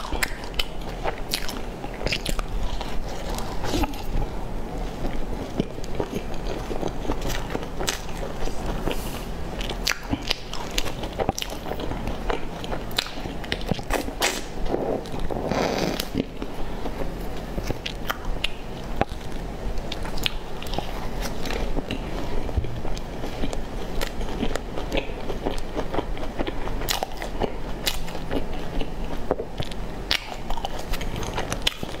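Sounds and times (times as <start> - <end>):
chewing bread: 0.0 - 32.0.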